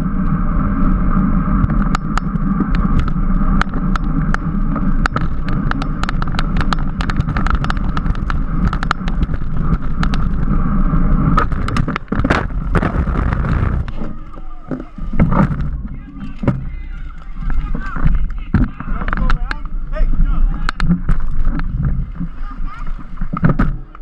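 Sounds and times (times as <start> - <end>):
wind rush from bicycle: 0.0 - 24.0
sharp clicks and knocks: 1.6 - 10.5, 11.3 - 19.8, 20.6 - 22.3, 23.2 - 24.0.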